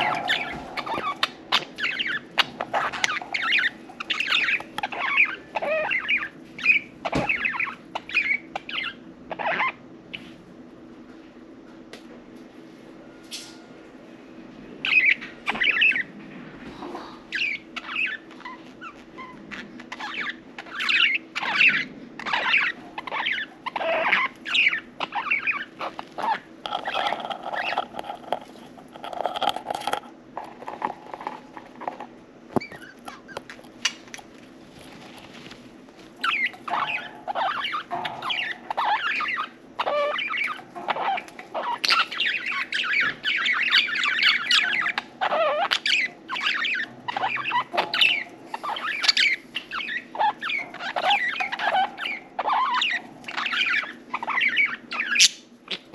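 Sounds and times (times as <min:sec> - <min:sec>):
budgerigars chirping and chattering: 0:00.0 - 0:10.3, 0:14.8 - 0:16.2, 0:17.3 - 0:28.4, 0:29.0 - 0:34.2, 0:36.2 - 0:55.9.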